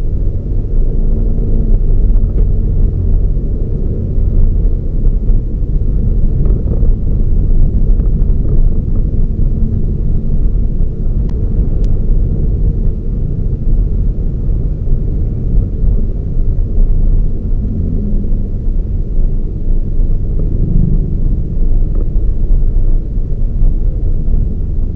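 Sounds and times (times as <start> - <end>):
car engine and road rumble: 0.0 - 24.9.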